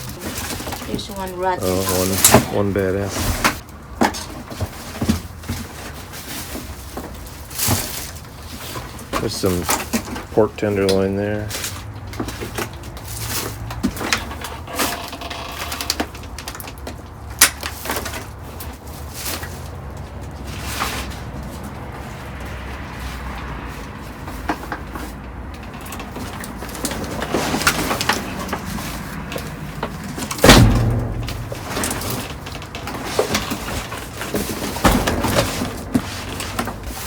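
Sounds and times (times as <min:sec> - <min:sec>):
items clattering in dumpster: 0:00.0 - 0:37.0.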